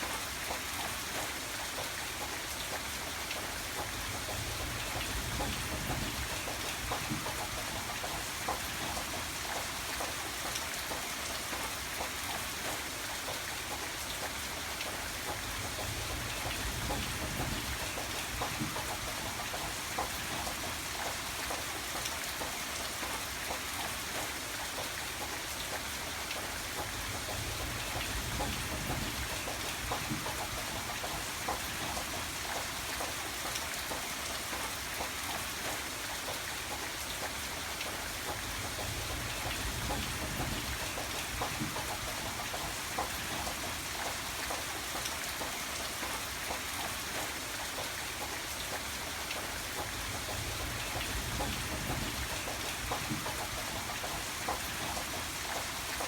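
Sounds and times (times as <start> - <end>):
steady rain hiss: 0.0 - 56.0
raindrops ticking: 0.1 - 56.0.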